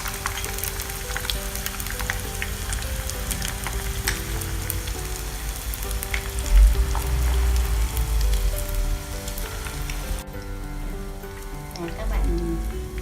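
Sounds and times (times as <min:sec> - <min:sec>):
crackles and pops: 0:00.0 - 0:13.0
fish cakes sizzling in oil: 0:00.0 - 0:13.0
low rumble: 0:01.2 - 0:13.0.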